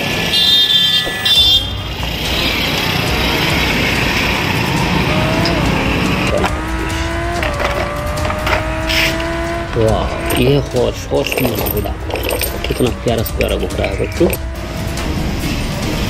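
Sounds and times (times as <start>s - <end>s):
road traffic: 0.0s - 16.0s
truck passing: 1.2s - 16.0s.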